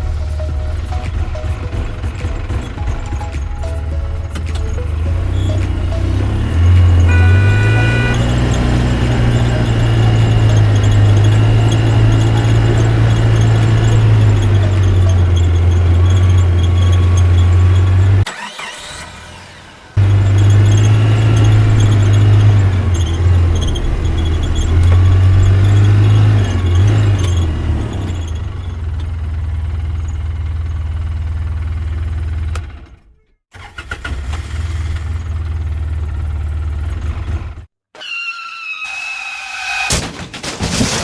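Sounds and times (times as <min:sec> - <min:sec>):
vehicle engine low hum: 0:00.0 - 0:18.3, 0:20.0 - 0:33.1, 0:34.0 - 0:37.7.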